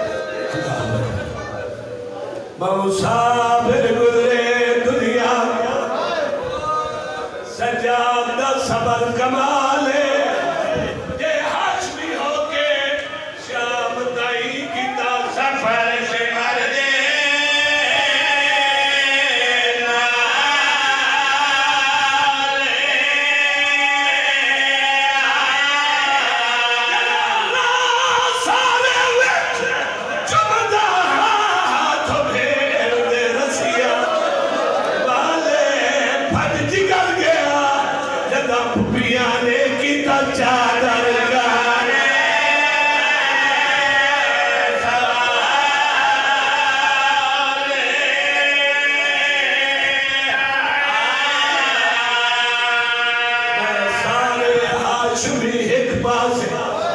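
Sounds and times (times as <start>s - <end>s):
man chanting into microphone: 2.5s - 34.2s, 35.0s - 56.9s.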